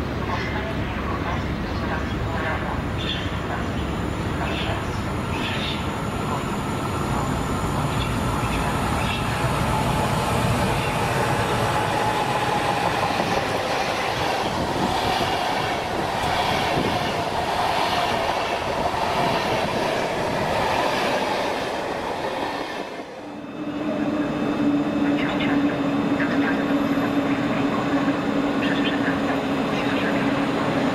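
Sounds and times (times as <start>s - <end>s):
train wheels rumbling on rails: 0.0s - 30.9s
train whine: 0.0s - 30.9s.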